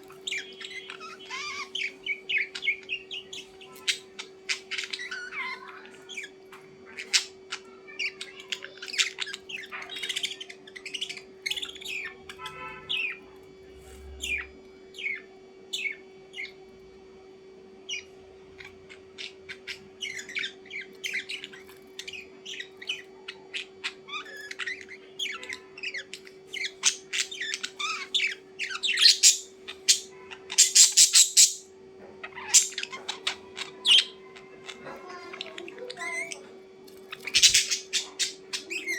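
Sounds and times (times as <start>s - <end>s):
birds chirping and squawking: 0.0s - 38.9s
steady low hum: 0.0s - 38.9s.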